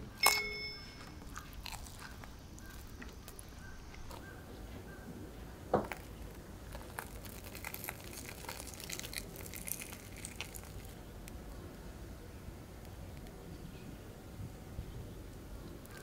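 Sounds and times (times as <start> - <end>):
crispy crust crackling: 1.0 - 16.0.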